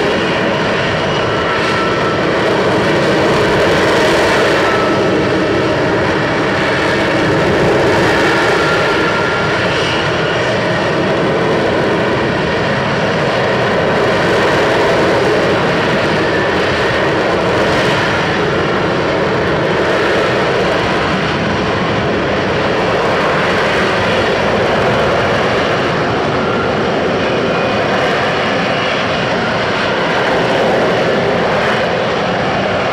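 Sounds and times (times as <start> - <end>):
jet engine roaring: 0.0 - 32.9.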